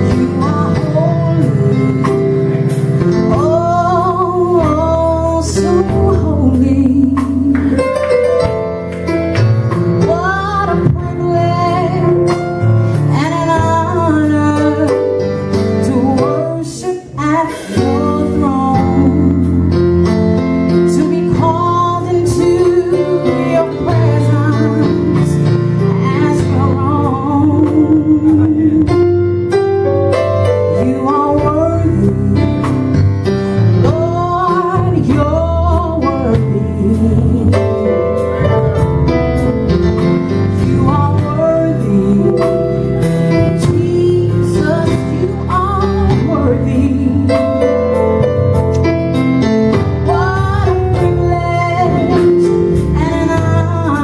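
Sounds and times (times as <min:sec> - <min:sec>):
keyboard and band accompaniment: 0:00.0 - 0:54.0.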